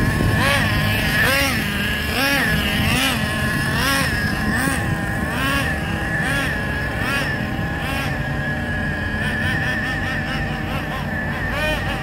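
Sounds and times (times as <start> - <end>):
small engine revving: 0.0 - 12.0
steady high whine: 0.0 - 12.0.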